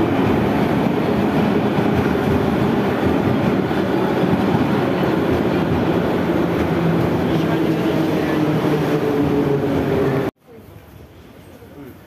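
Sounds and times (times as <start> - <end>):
metro train wheels rumbling: 0.0 - 10.3.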